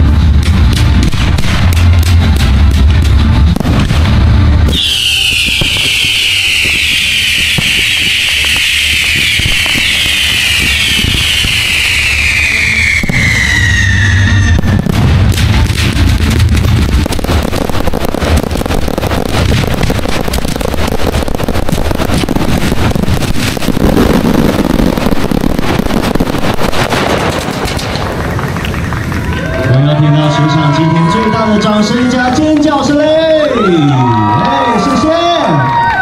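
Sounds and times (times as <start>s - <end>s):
low rumble: 0.0s - 33.0s
fireworks bursting and crackling: 0.0s - 33.4s.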